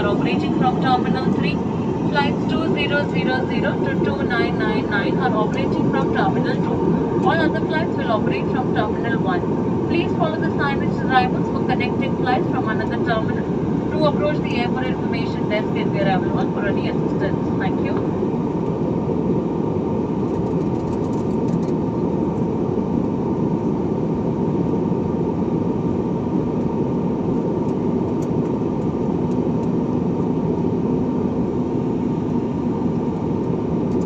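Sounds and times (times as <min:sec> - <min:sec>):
jet airliner cabin rumble: 0:00.0 - 0:34.0
thin steady whine: 0:00.0 - 0:34.0.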